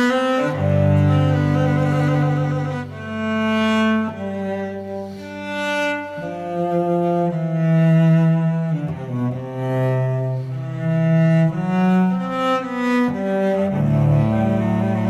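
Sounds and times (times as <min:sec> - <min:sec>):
bowed strings playing low notes: 0:00.0 - 0:15.0.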